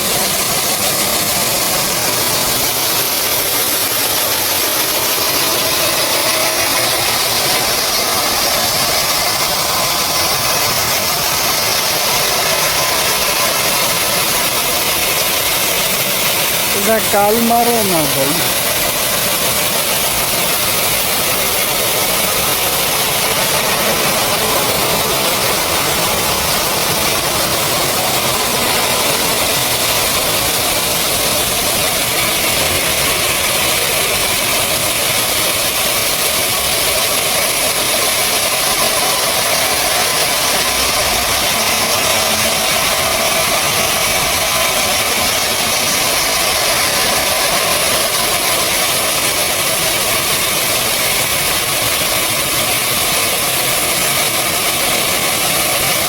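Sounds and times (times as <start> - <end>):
machine running loudly: 0.0 - 56.0.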